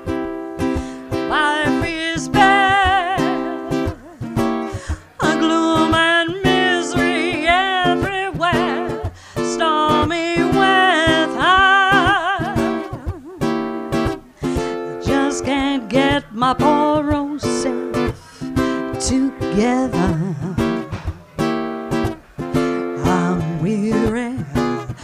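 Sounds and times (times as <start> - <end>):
strummed ukulele chords: 0.0 - 25.0
woman singing jazz with vibrato: 1.0 - 21.0, 22.8 - 25.0.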